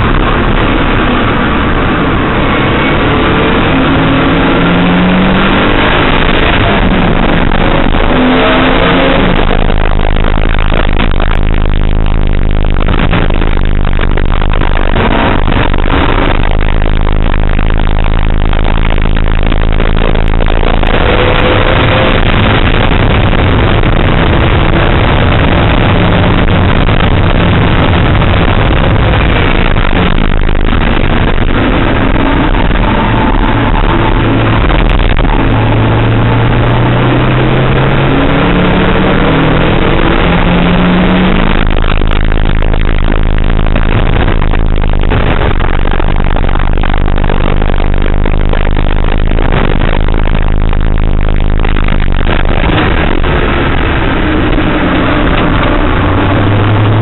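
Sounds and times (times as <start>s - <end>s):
car engine revving through gears: 0.0s - 11.9s, 12.5s - 44.5s, 51.7s - 57.0s
road and wind noise: 0.0s - 57.0s.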